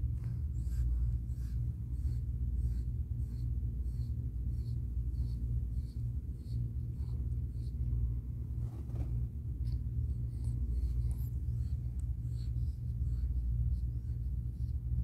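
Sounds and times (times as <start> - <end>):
cat breathing quickly: 0.0 - 8.6, 9.3 - 15.0.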